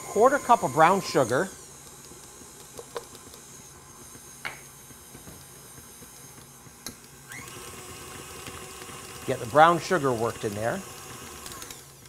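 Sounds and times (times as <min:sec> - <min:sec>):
stand mixer motor hum: 0:00.0 - 0:12.0.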